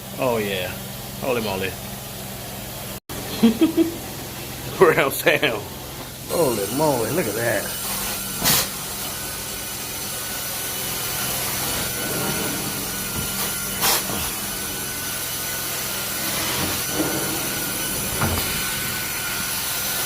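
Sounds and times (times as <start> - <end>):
carpet cleaning machine running: 0.0 - 20.0.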